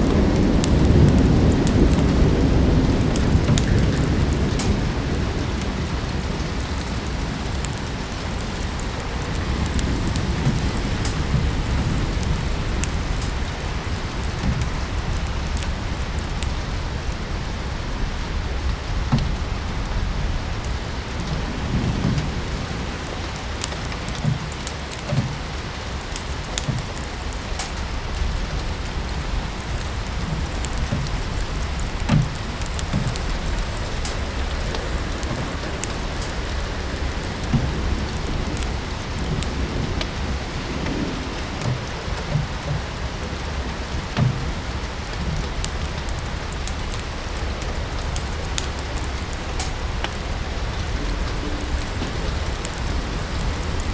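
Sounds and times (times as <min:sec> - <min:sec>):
steady rain: 0:00.0 - 0:53.9
wood fire crackling: 0:00.0 - 0:53.9.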